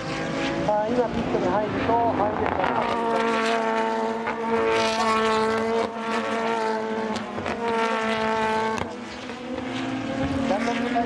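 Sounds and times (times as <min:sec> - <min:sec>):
race car engines at high revs: 0:00.0 - 0:11.0.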